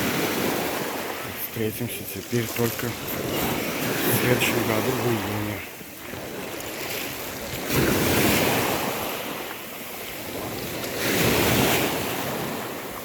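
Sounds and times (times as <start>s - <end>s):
waves washing onto shore: 0.0s - 13.0s
wind buffeting microphone: 0.0s - 13.0s.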